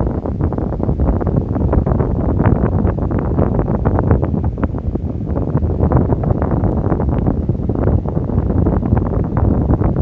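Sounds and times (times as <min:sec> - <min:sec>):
electric fan blowing on microphone: 0:00.0 - 0:10.0.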